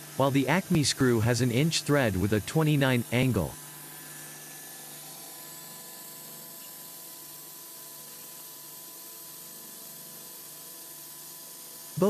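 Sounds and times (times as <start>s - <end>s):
faint machine hum: 0.0s - 12.0s
thread-rolling machine hissing: 0.0s - 12.0s.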